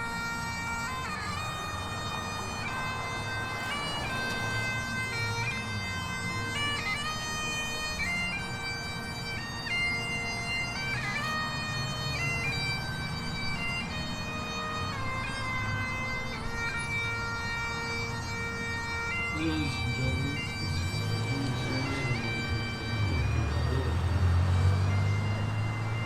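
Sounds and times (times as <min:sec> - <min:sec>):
bagpipes playing melody: 0:00.0 - 0:26.0.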